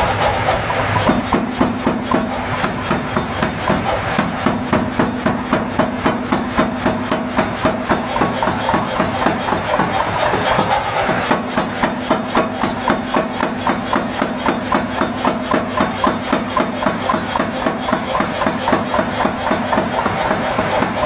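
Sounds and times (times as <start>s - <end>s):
hammer striking hot iron on anvil: 0.0s - 21.0s
machinery humming: 0.0s - 21.0s.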